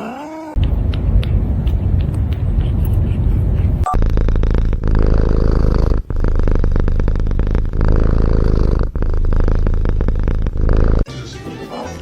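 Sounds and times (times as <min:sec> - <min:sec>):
cat purring: 0:00.6 - 0:11.1.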